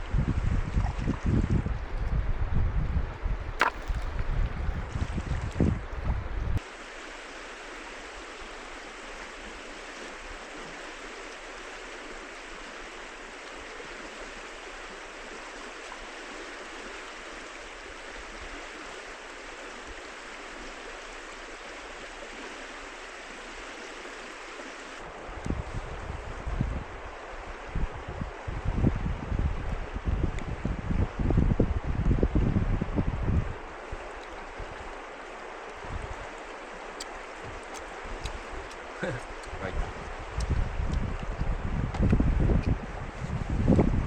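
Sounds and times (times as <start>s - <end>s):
river water flowing: 0.0s - 28.5s, 33.4s - 41.7s.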